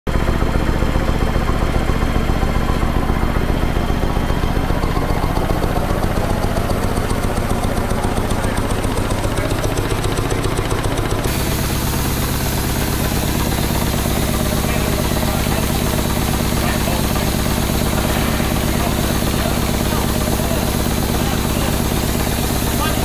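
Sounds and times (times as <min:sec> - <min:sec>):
steam engine running: 0:00.1 - 0:23.0.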